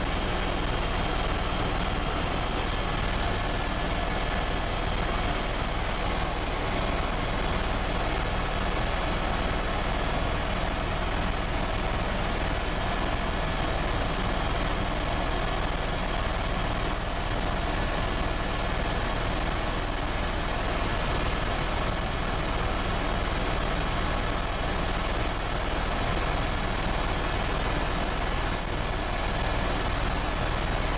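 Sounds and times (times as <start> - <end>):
helicopter engine and rotor: 0.0 - 30.9.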